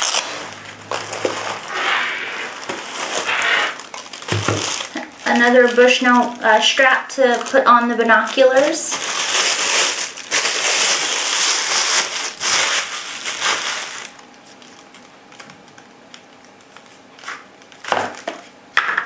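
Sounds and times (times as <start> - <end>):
plastic bag crinkling: 0.0 - 15.9.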